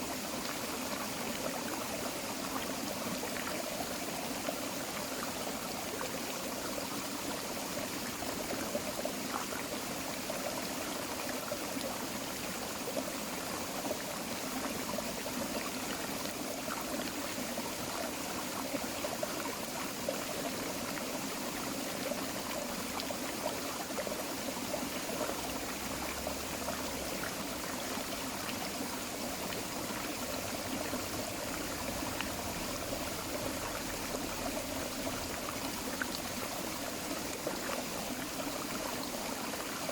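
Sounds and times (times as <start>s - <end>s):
creek water rushing: 0.0s - 39.9s
water splashes and trickles: 0.0s - 39.9s.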